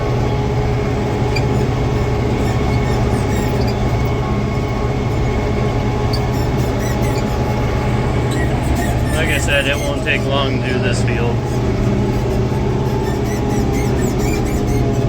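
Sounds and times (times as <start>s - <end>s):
tractor engine running: 0.0s - 15.0s
squeaky seat squeaks: 0.9s - 15.0s.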